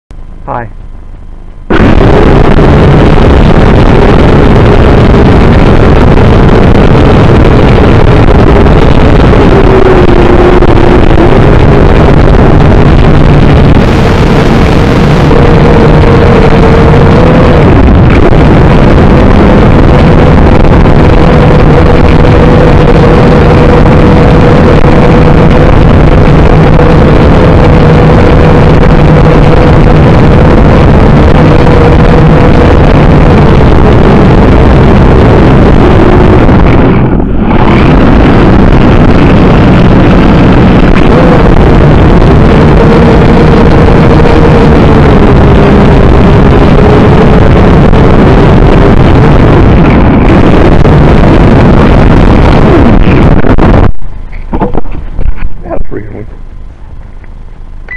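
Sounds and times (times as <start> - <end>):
drone propellers buzzing: 1.4 - 55.8.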